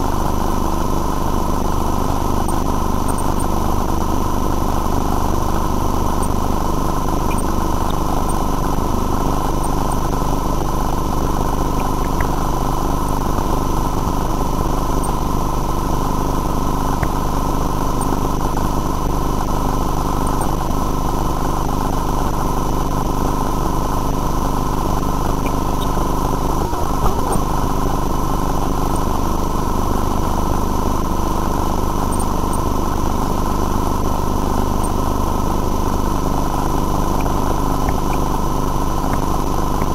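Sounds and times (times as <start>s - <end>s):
machine drone: 0.0s - 39.9s.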